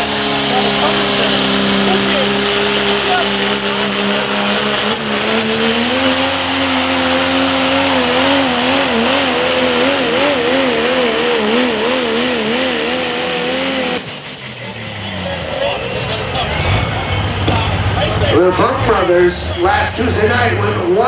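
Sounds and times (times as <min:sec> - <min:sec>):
diesel truck engine at full throttle: 0:00.0 - 0:21.0.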